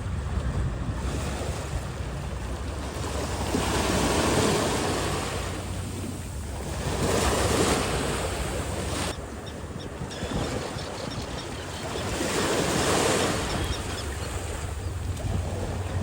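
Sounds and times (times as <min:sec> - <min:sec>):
ocean surf washing on shore: 0:00.0 - 0:16.0
wind rumble on microphone: 0:00.0 - 0:16.0.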